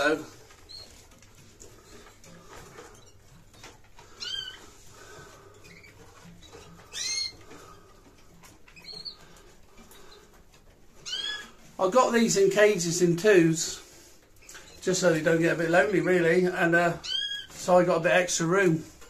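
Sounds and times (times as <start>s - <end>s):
canaries chirping: 0.0s - 19.0s.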